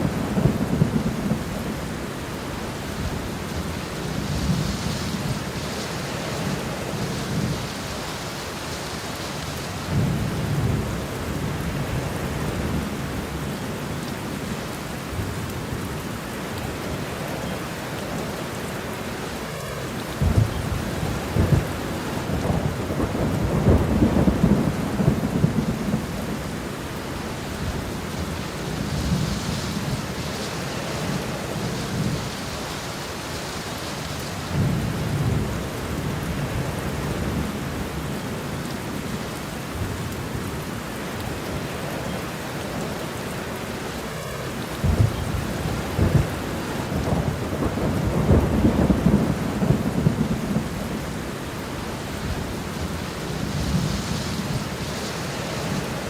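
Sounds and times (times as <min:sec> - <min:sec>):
thunder rumbling: 0:00.0 - 0:13.5, 0:16.8 - 0:39.1, 0:39.7 - 0:56.0
rain falling: 0:00.0 - 0:56.0.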